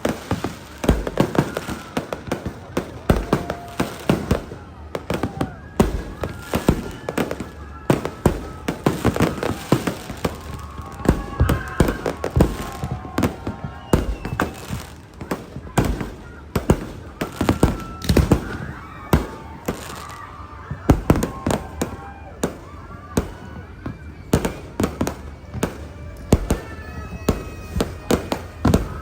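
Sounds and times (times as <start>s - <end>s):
fireworks banging: 0.0s - 29.0s.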